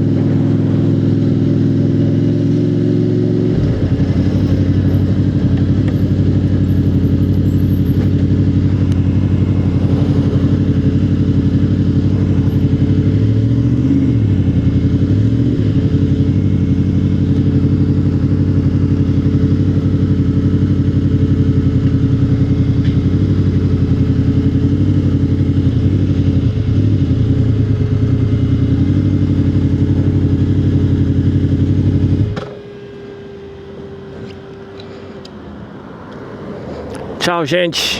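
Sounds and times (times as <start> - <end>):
motorcycle engine running: 0.0 - 36.3.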